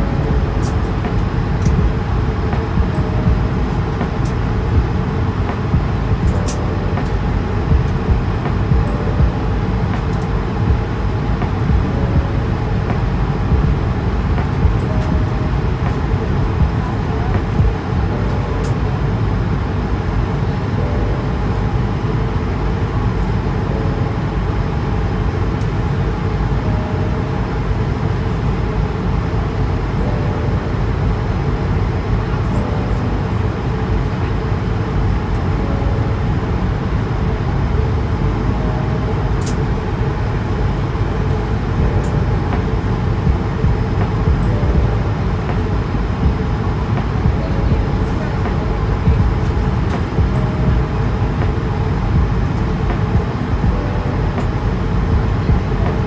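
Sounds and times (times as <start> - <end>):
airplane cabin airflow and engines: 0.0 - 56.0.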